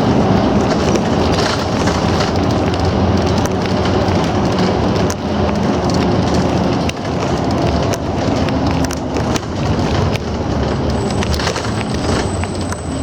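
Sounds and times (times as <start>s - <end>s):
bus engine hum: 0.0s - 13.0s
small clicks and rattles: 0.0s - 13.0s
tyre and road noise: 0.0s - 13.0s.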